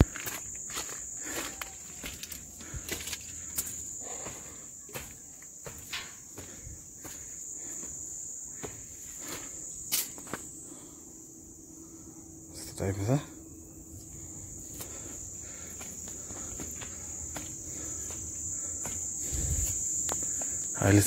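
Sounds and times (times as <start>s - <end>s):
footsteps on stone path: 0.0s - 10.8s, 13.9s - 20.8s
insects chirring: 0.0s - 21.0s.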